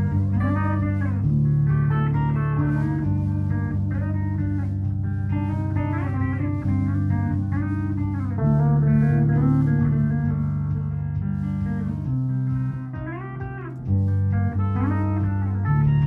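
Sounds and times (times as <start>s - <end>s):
electric guitar melody: 0.0s - 16.0s.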